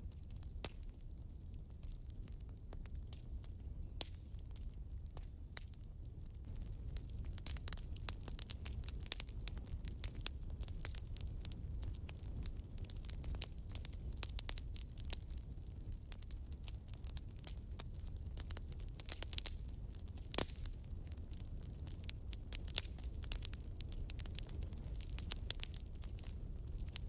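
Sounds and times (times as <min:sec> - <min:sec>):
low steady fire rumble: 0:00.0 - 0:27.0
wood fire crackling and popping: 0:00.0 - 0:27.0.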